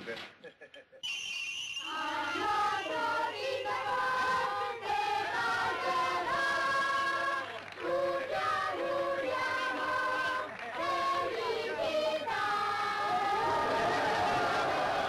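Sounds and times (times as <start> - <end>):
children's choir singing: 1.8 - 15.0.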